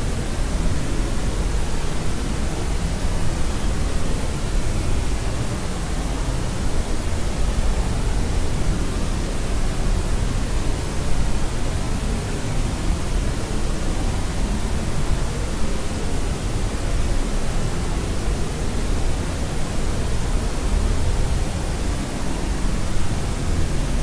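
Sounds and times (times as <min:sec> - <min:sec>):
steady low pink noise hiss: 0:00.0 - 0:24.0.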